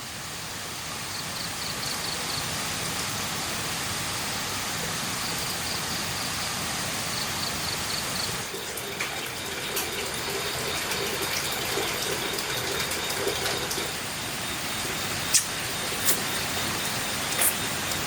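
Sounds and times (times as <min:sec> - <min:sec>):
rushing water: 0:00.3 - 0:18.0.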